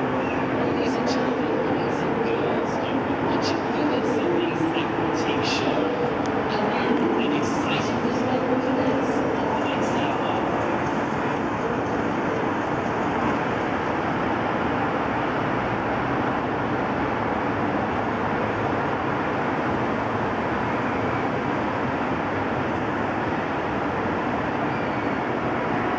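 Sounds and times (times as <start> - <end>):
city background rumble and hiss: 0.0 - 25.9.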